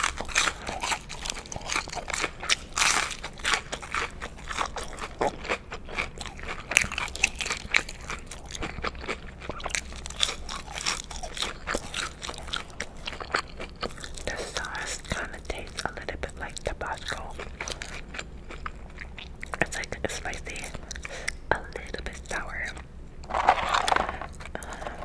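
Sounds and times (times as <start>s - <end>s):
crunching chewing of breaded chicken: 0.0s - 25.0s.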